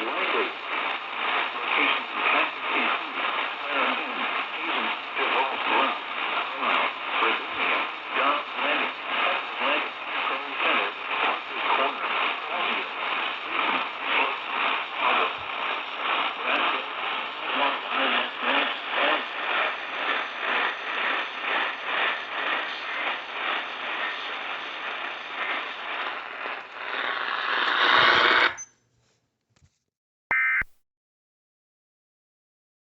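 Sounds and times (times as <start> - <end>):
pulsing radio static: 0.0 - 26.9, 30.3 - 30.7.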